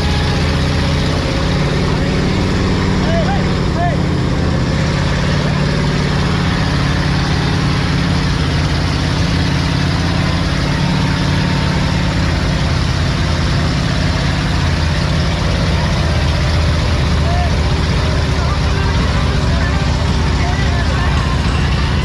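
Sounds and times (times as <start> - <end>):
vehicle engine running steadily: 0.0 - 22.0.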